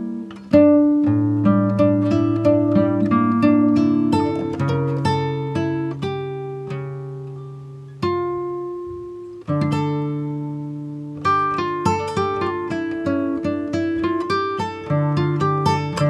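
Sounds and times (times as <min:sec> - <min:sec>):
acoustic guitar picking: 0:00.0 - 0:16.0
guitar chords ringing: 0:00.0 - 0:16.0.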